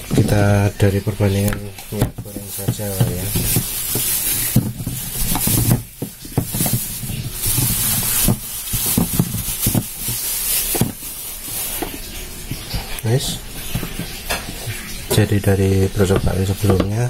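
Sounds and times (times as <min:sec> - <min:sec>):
handling knocks: 0:00.0 - 0:15.3
plastic bag rustling: 0:00.0 - 0:17.0.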